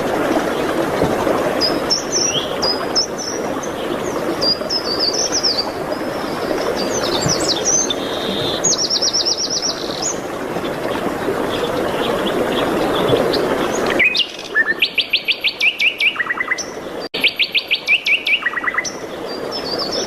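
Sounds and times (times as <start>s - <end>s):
songbirds chirping: 1.6s - 20.0s.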